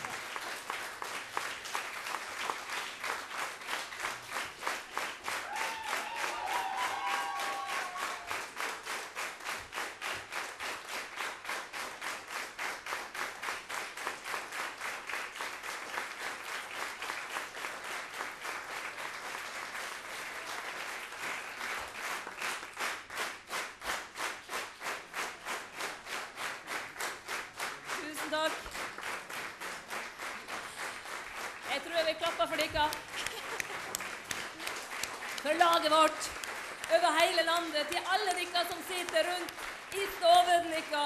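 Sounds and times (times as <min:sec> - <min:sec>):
crowd clapping in unison: 0:00.0 - 0:41.0.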